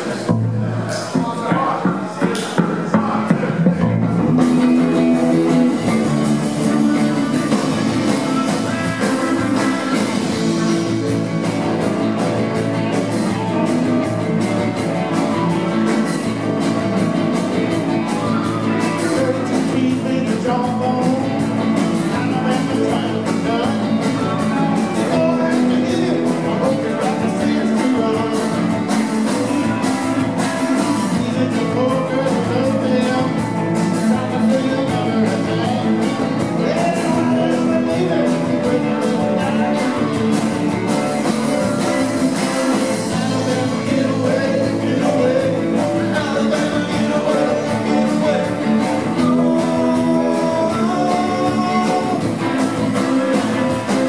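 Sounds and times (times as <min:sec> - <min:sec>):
live rock band playing: 0:00.0 - 0:54.0
man singing lead: 0:00.0 - 0:54.0.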